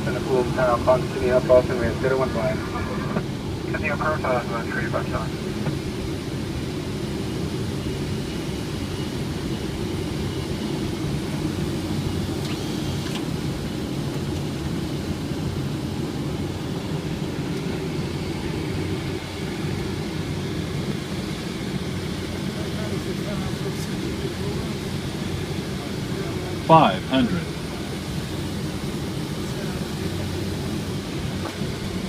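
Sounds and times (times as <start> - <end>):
jet engines humming: 0.0 - 32.0.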